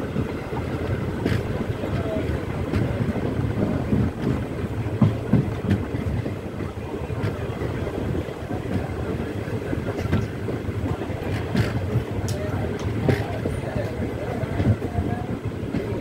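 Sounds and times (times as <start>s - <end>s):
train wheels rumbling on rails: 0.0s - 16.0s
wind on microphone: 0.0s - 16.0s.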